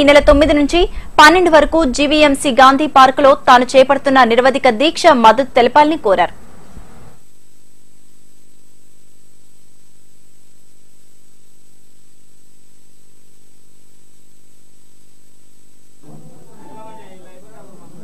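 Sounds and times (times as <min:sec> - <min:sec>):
constant hiss: 0:00.0 - 0:18.0
low electrical hum: 0:00.0 - 0:18.0.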